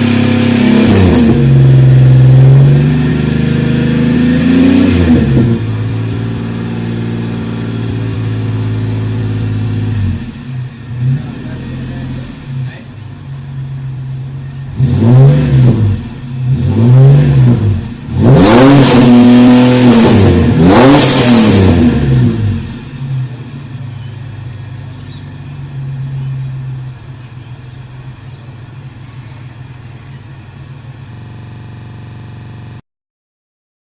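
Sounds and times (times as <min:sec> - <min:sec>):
car engine idling and revving: 0:00.0 - 0:32.8.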